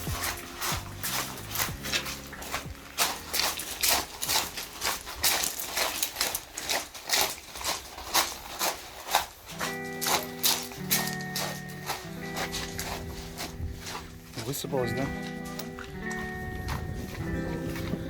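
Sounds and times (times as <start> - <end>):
crunching footsteps: 0.0 - 18.0.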